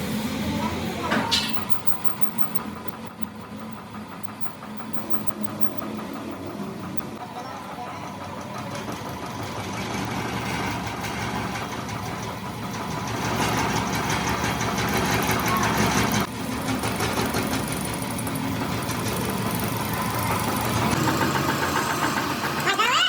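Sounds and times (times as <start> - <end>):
engine running with rapid pulse: 0.0 - 23.0.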